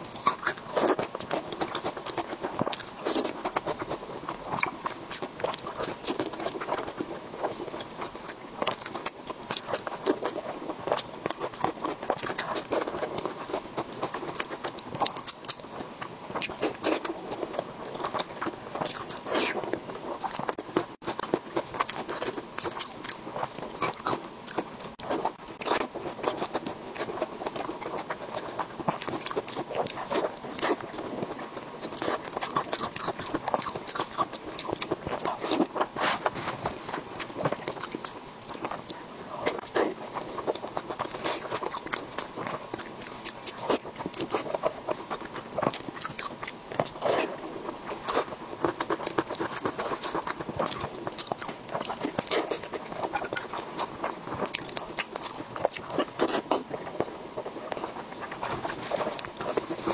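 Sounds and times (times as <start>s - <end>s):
wet chewing and lip smacks: 0.0s - 59.9s.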